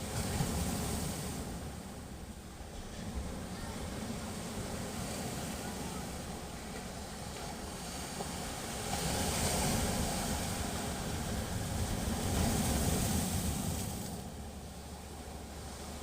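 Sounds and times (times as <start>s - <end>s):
sea waves breaking on shore: 0.0s - 16.0s.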